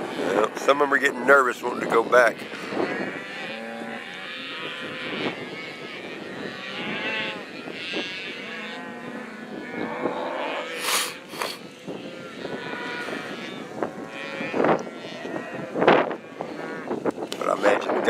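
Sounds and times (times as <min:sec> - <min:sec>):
cattle mooing and bawling: 0:00.0 - 0:17.7.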